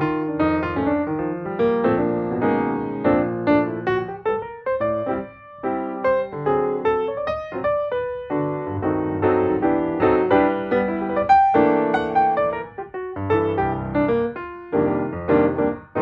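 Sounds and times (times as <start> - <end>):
keyboard melody over chords: 0.0 - 16.0.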